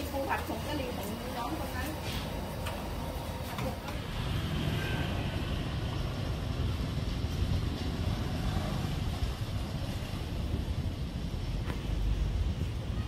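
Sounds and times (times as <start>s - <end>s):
low outdoor rumbling: 0.0s - 13.0s.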